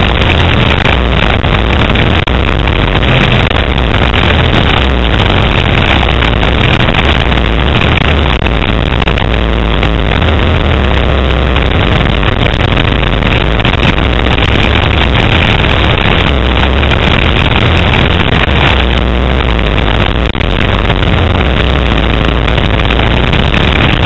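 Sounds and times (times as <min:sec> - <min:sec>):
heavy noise: 0:00.0 - 0:24.0.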